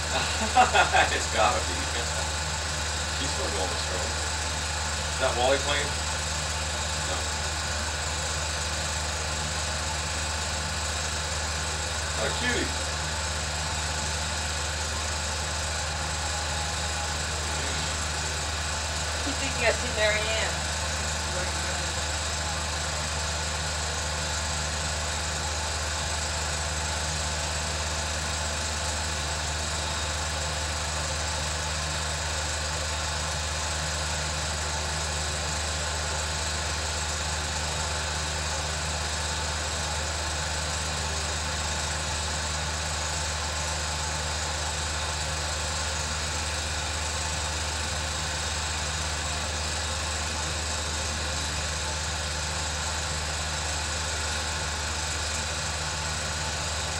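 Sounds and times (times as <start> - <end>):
film projector running: 0.0 - 56.9.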